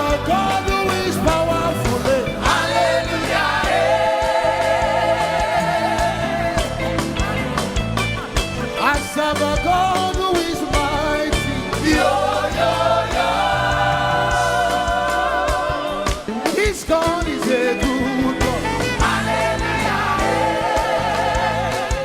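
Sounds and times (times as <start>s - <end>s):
gospel band playing: 0.0s - 22.0s
singers and choir: 0.0s - 22.0s.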